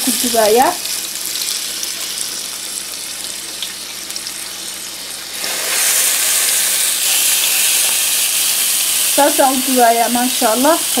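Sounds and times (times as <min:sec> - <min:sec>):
oil spatter crackles: 0:00.0 - 0:09.6
food sizzling in hot oil: 0:00.0 - 0:11.0.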